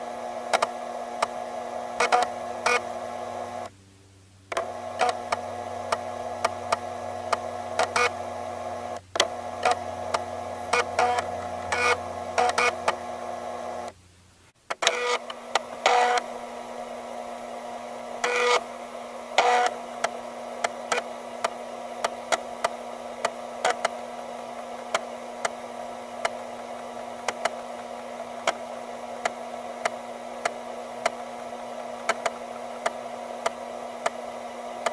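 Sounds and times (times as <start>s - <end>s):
floppy drive motor humming: 0.0s - 3.7s, 4.5s - 14.0s, 14.7s - 34.9s
read head buzzing seek: 0.0s - 3.7s, 4.4s - 34.9s.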